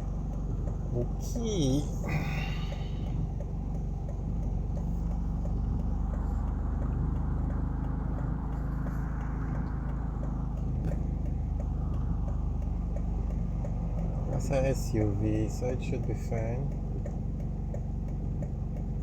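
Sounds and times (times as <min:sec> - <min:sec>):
car engine idling: 0:00.0 - 0:19.0
light regular ticking: 0:00.0 - 0:19.0.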